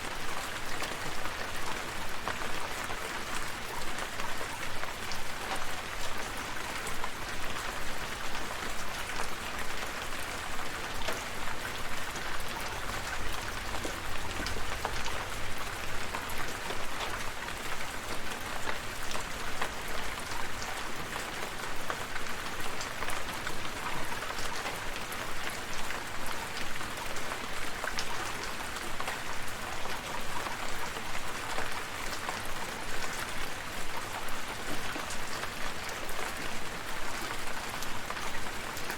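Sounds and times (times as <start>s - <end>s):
raindrops hitting a surface: 0.0s - 38.9s
steady rain falling: 0.0s - 38.9s.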